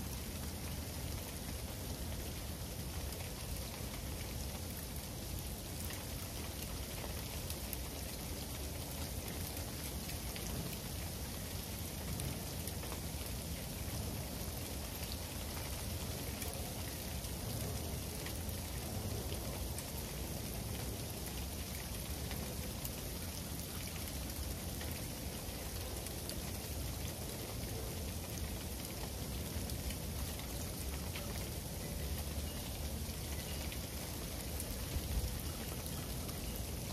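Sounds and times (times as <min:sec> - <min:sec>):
freezing rain ticking: 0:00.0 - 0:36.9.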